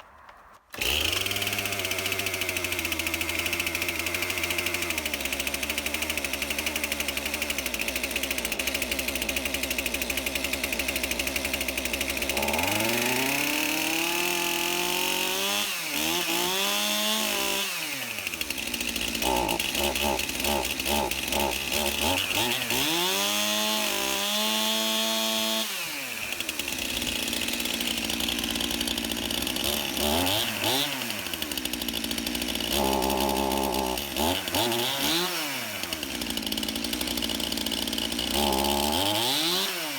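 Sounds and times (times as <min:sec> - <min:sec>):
chainsaw idling and revving: 0:00.7 - 0:39.9.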